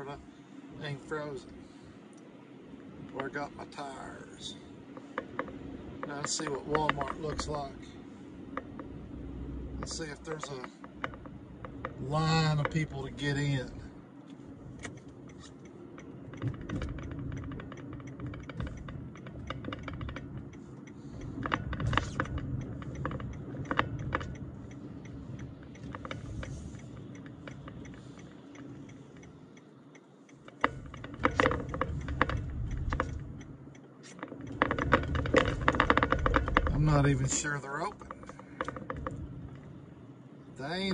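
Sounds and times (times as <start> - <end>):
car road rumble: 0.0 - 40.9
ticking and clicking: 5.0 - 9.0, 9.7 - 40.9.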